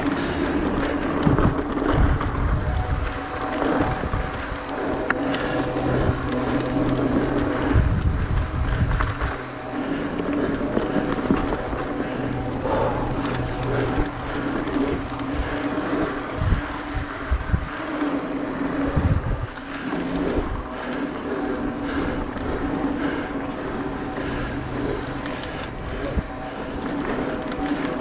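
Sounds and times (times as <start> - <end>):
bike rattling: 0.0 - 28.0
steady hum: 0.0 - 28.0
tyres rolling on dirt and leaves: 0.0 - 28.0.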